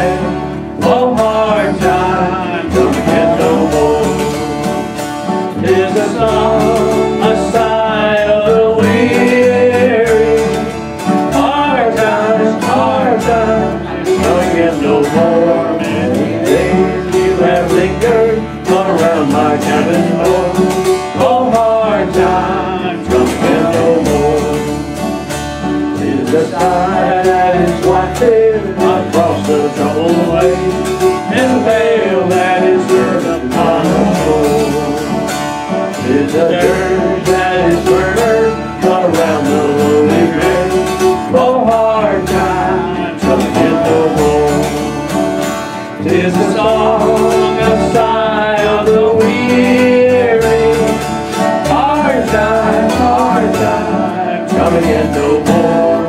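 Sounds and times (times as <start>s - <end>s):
dulcimers strumming: 0.0s - 56.0s
upright bass plucked: 0.0s - 56.0s.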